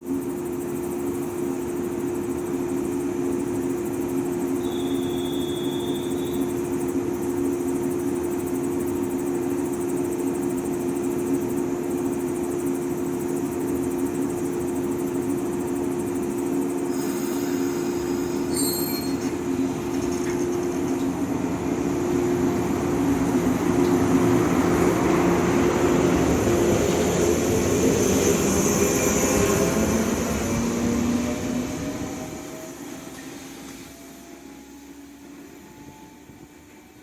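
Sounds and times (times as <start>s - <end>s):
electric train humming: 0.2s - 37.0s.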